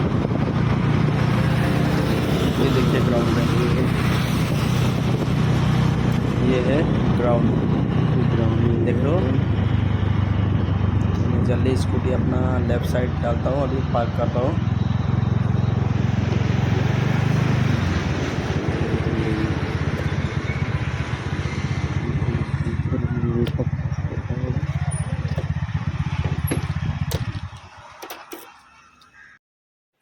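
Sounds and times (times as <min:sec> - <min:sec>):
scooter engine running: 0:00.0 - 0:28.7.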